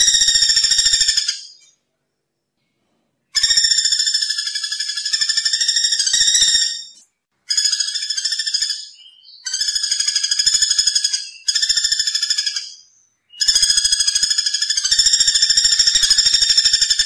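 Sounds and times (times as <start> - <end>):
woodpecker rattling trills: 0.0 - 1.6, 3.4 - 17.0.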